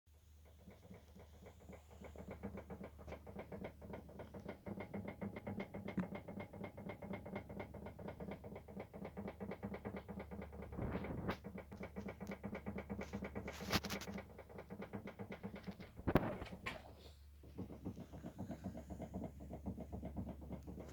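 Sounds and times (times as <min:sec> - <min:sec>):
rapid knocking from car steering: 0:00.3 - 0:20.9.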